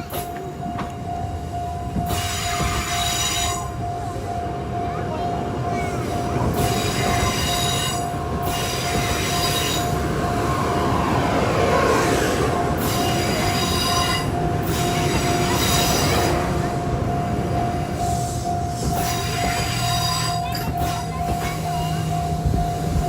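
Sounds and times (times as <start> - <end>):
level-crossing warning bell ringing: 0.0 - 23.0
train rolling slowly past: 0.0 - 23.0.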